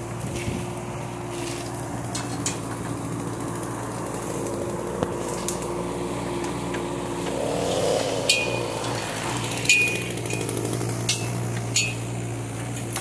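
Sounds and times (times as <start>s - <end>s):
diesel excavator running: 0.0s - 13.0s.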